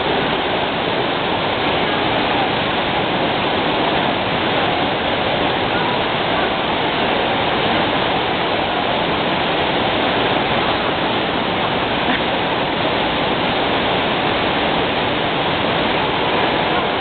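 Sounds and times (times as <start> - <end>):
falling and splashing water: 0.0 - 17.0.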